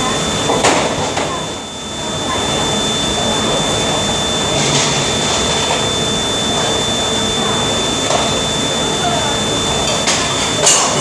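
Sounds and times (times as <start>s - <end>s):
dish room rushing noise: 0.0s - 11.0s
thin high whine: 0.0s - 11.0s.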